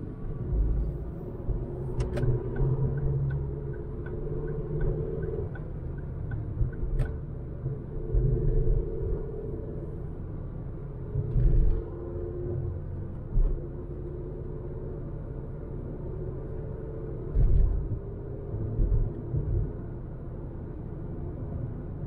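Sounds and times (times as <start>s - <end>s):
road rumble: 0.0s - 22.0s.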